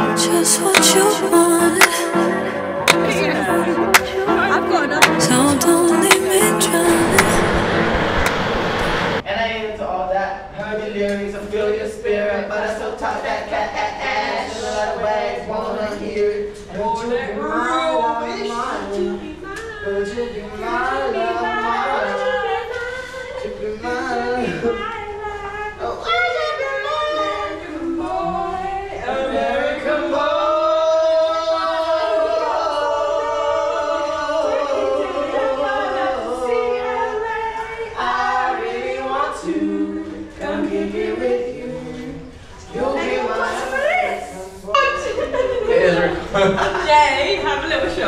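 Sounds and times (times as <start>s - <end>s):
voices singing unaccompanied: 0.0s - 7.8s, 11.3s - 45.2s.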